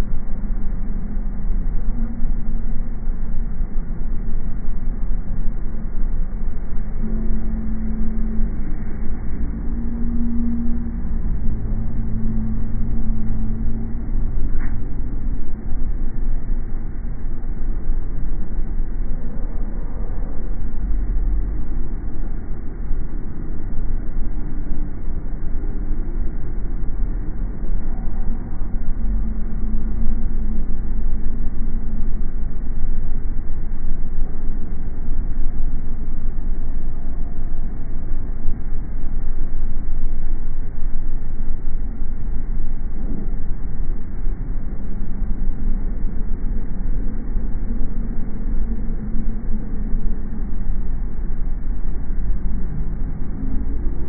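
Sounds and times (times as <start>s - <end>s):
car road and engine rumble: 0.0s - 54.0s
faint steady hum: 0.0s - 54.0s.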